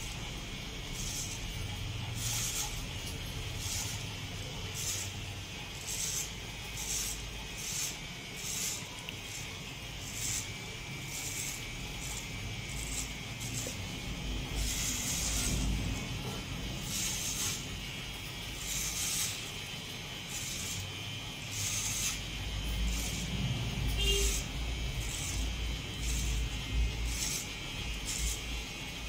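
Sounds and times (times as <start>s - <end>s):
crackling hiss of blade through hair: 0.0s - 29.0s
electric hair clipper running: 0.0s - 29.0s.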